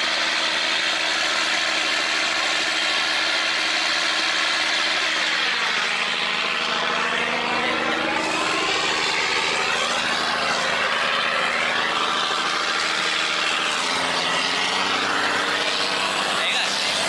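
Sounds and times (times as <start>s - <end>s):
boat diesel engine running: 0.0s - 17.0s
steady rushing noise: 0.0s - 17.0s.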